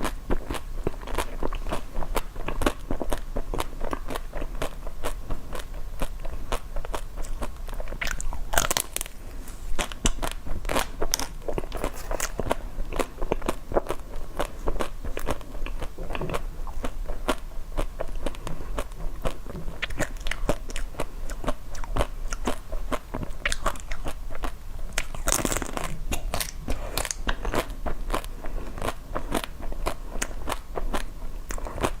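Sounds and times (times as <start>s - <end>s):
chewing crunchy food: 0.0s - 32.0s.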